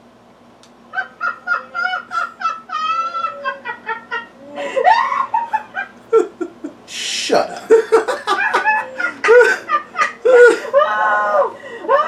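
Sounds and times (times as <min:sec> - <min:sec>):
high-pitched hooting laughter: 0:00.9 - 0:12.0.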